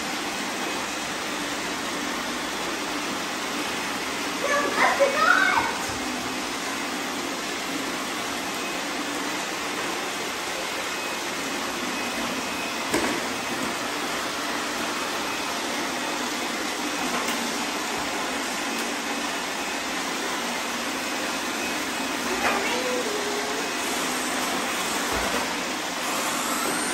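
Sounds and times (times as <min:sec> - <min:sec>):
robot vacuums whirring: 0:00.0 - 0:26.9.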